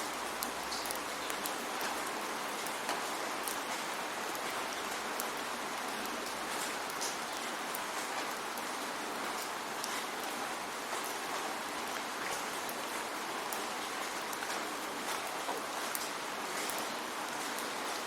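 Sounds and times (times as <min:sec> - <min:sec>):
raindrops ticking on a surface: 0:00.0 - 0:18.0.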